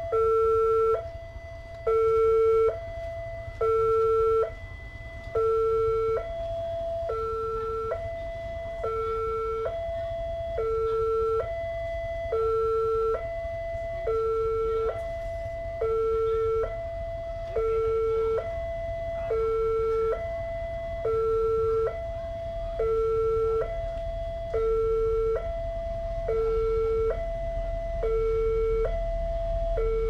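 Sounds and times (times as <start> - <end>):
two-tone warning siren: 0.0 - 30.0.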